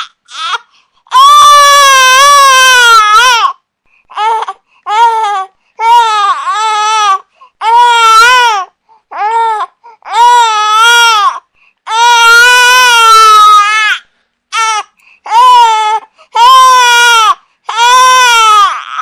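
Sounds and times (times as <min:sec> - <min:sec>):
baby crying: 0:00.0 - 0:19.0.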